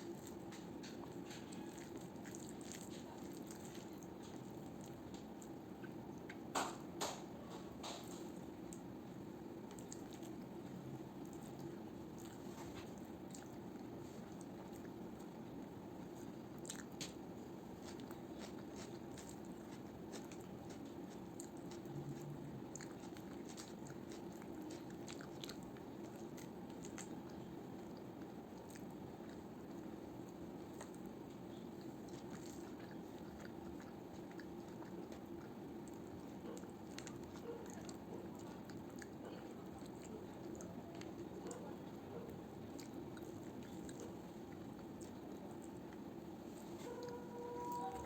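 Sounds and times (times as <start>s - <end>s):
low background noise: 0.0s - 48.0s
person chewing food: 0.0s - 48.0s.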